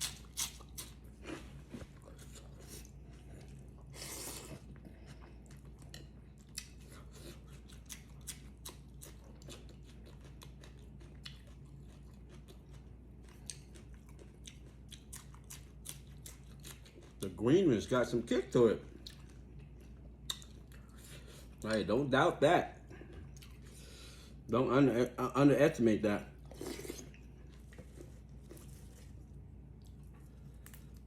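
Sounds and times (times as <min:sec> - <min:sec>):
chewing and crunching food: 0:00.0 - 0:21.9, 0:22.8 - 0:25.1, 0:26.2 - 0:31.0.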